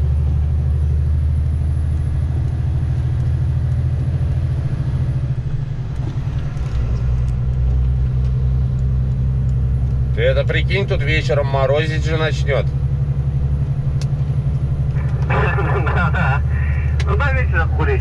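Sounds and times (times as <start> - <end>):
truck diesel engine droning: 0.0 - 18.0.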